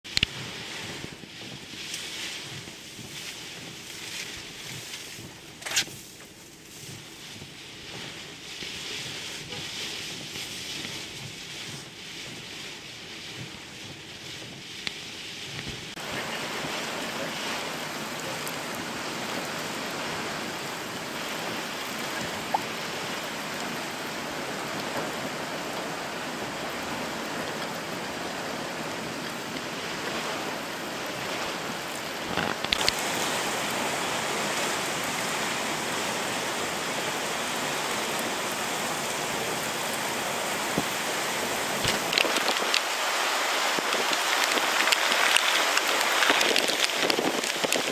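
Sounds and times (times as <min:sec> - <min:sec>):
heavy wind-driven rain: 0:00.0 - 0:47.9
sharp rain patters: 0:00.0 - 0:47.9.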